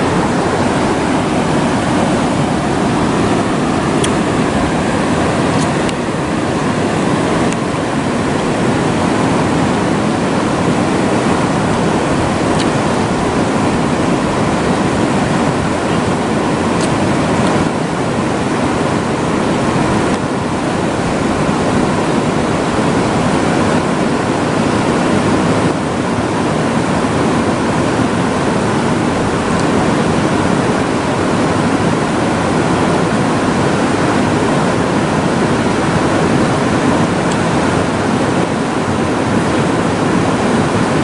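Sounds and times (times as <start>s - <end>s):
fast-flowing river rushing: 0.0s - 41.0s.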